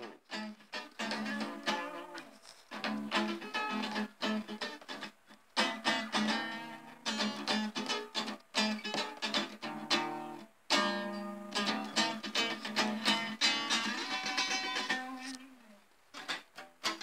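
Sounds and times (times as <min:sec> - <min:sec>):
plucked and strummed guitar: 0:00.0 - 0:17.0.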